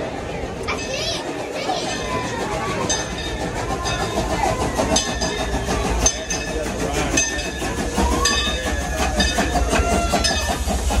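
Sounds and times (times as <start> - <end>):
steam locomotive rumbling: 0.0 - 11.0
wheels clattering: 0.0 - 11.0.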